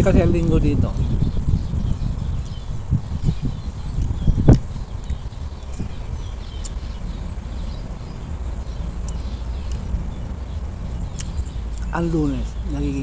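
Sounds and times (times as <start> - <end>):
low rumble: 0.0 - 13.0
faint bird chirps: 0.4 - 13.0.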